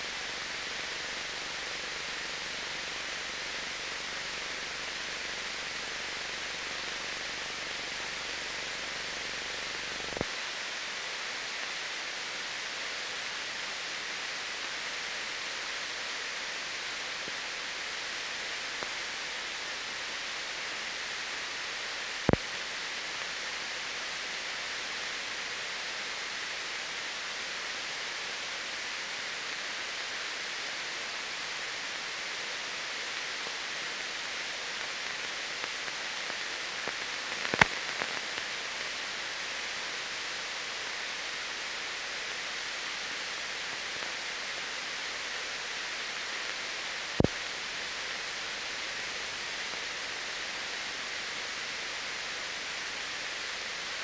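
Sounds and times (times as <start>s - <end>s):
film surface hiss: 0.0s - 54.0s.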